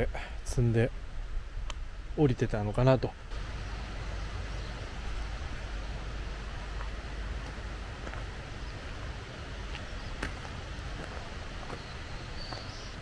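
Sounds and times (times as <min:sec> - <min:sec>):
outdoor rushing noise with rumble: 0:00.0 - 0:13.0.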